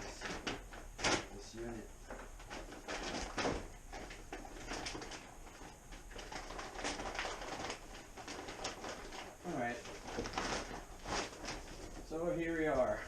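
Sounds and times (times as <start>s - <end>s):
hands rustling packaging: 0.0s - 13.0s.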